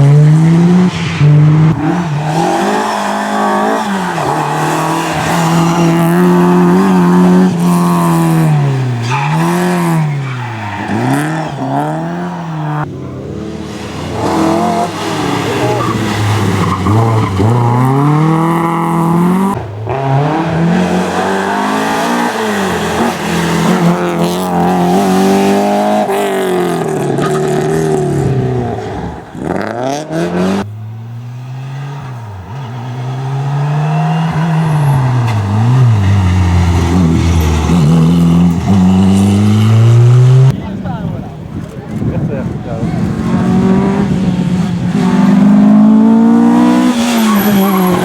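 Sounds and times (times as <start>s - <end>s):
rally car engines accelerating: 0.0s - 48.0s.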